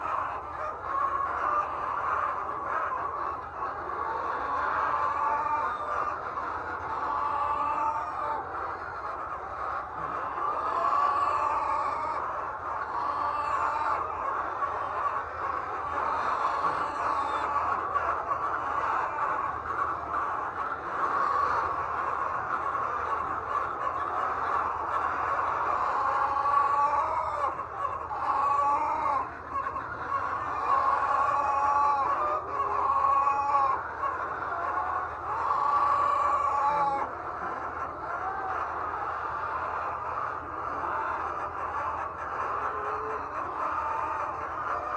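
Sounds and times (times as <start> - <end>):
hens clucking: 0.0 - 44.9.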